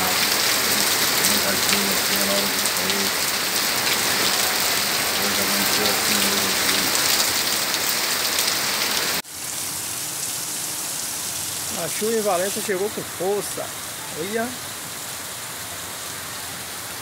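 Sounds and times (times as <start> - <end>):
rain pouring: 0.0 - 17.0.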